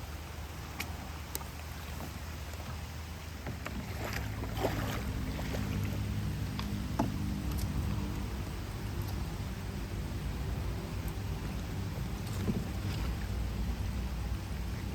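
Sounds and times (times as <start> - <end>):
boat motor hum: 0.0 - 14.9.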